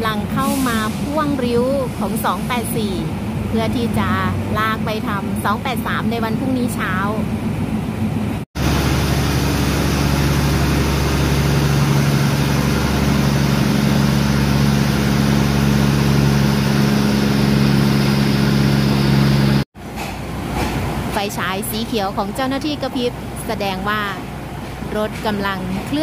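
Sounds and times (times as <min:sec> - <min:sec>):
train diesel engine droning: 0:00.0 - 0:26.0.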